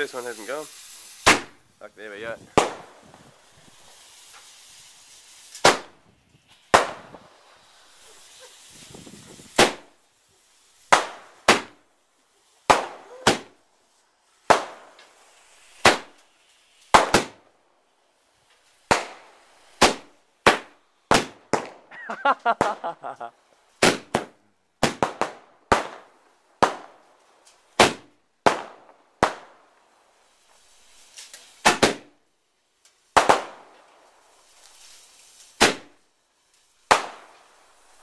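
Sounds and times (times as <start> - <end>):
firework bangs: 0.0 - 17.6, 18.3 - 32.2, 33.1 - 38.0
fuse burning hiss: 0.0 - 38.0.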